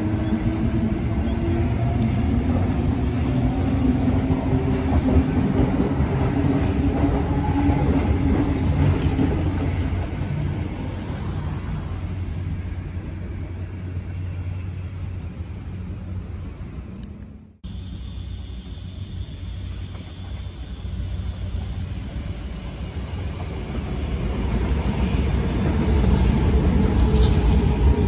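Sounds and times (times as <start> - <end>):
train passing with rumble: 0.0 - 28.0.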